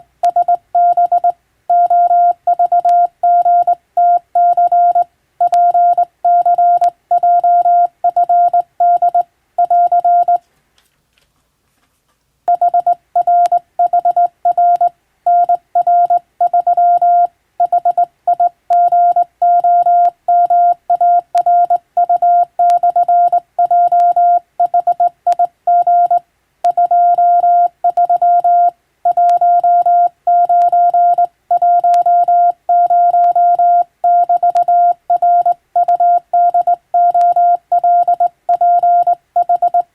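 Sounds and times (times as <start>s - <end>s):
morse code beeps: 0.2s - 10.4s, 12.5s - 39.9s.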